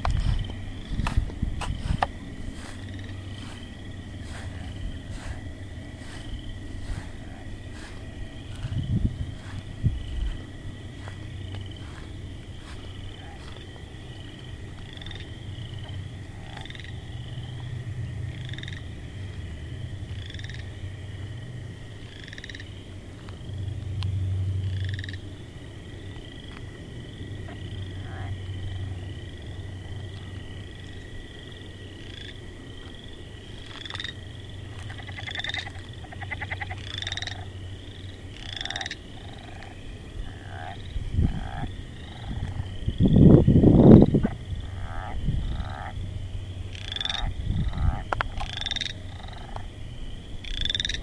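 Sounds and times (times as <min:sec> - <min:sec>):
frogs chirping: 0:00.0 - 0:51.0
low drone: 0:00.0 - 0:51.0
rapid pulsed trills: 0:00.0 - 0:51.0.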